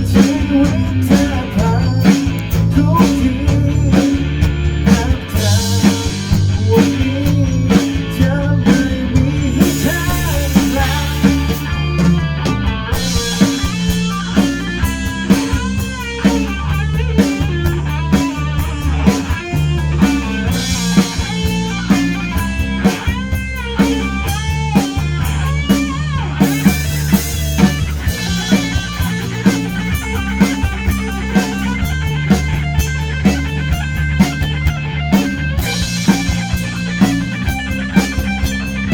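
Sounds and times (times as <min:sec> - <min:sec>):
bending lead guitar line: 0:00.0 - 0:38.9
drum kit beat: 0:00.0 - 0:38.9
rock band playing live: 0:00.0 - 0:38.9.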